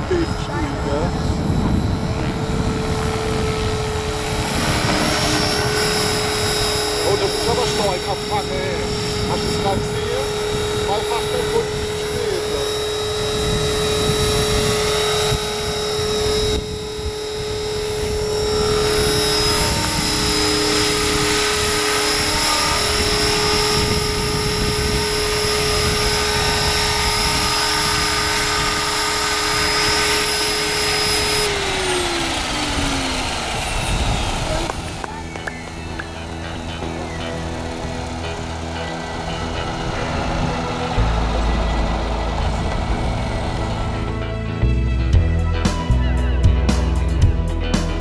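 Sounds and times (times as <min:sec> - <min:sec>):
motor and rotor spooling down: 0:00.0 - 0:45.3
rc helicopter motor whine: 0:00.0 - 0:46.0.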